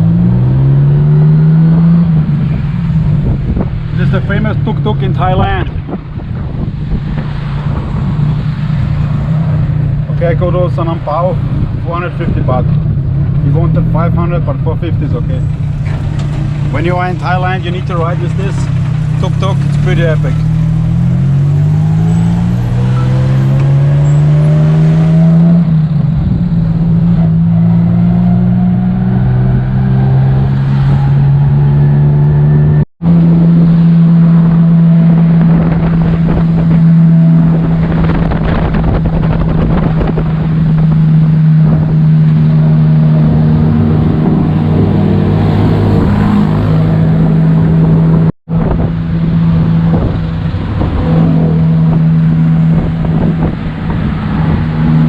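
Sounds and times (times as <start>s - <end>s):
tuk-tuk engine running: 0.0s - 55.0s.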